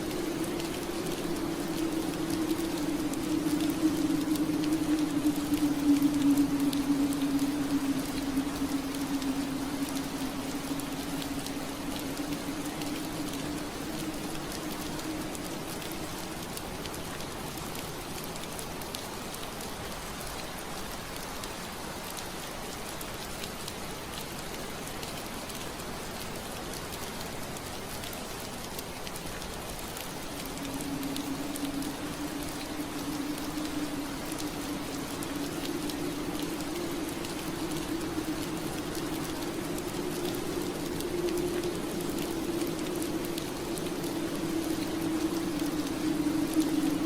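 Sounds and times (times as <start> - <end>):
rain on window glass: 0.0 - 47.0.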